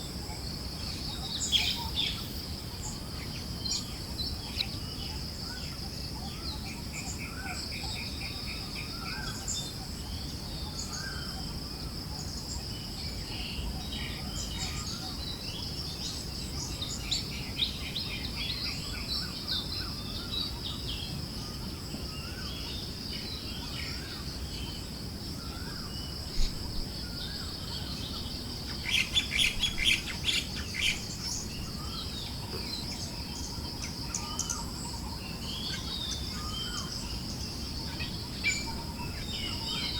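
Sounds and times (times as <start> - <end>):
birds chirping and trilling: 0.7 - 39.9.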